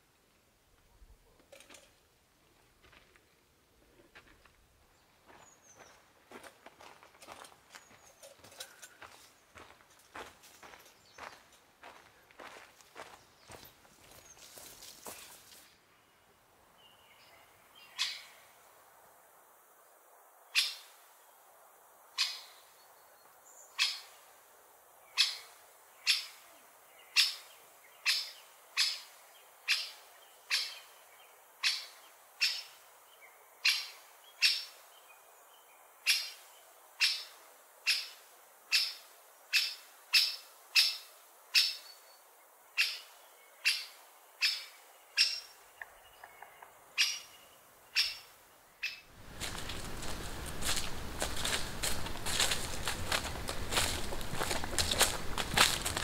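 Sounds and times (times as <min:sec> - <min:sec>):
faint bird song: 0:02.9 - 0:18.6, 0:19.8 - 0:56.0.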